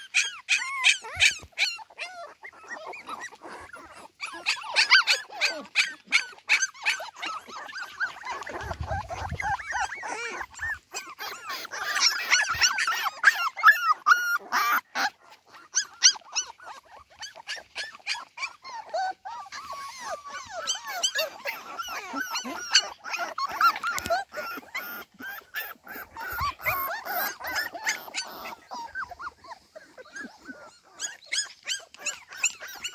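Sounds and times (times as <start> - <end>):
puppies whining and whimpering: 0.0 - 32.9
puppies yipping: 0.0 - 32.9.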